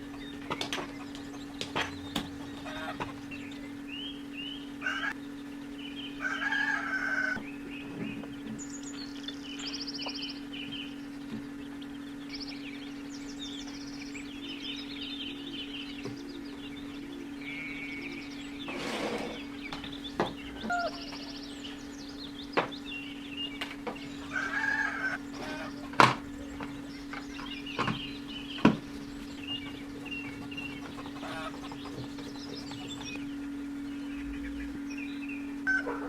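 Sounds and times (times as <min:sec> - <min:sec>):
chickens clucking: 0:00.0 - 0:36.0
steady low hum: 0:00.0 - 0:36.0.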